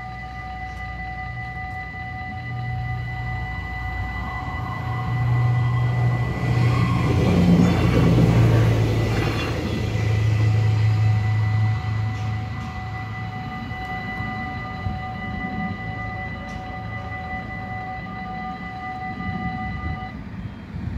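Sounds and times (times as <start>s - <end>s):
level crossing bells ringing: 0.0s - 20.2s
diesel train passing: 0.0s - 20.9s.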